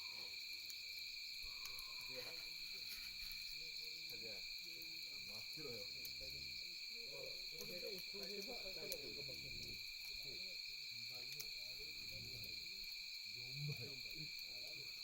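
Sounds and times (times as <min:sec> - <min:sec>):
campfire crackles: 0:00.0 - 0:15.0
crickets chirring: 0:00.0 - 0:15.0.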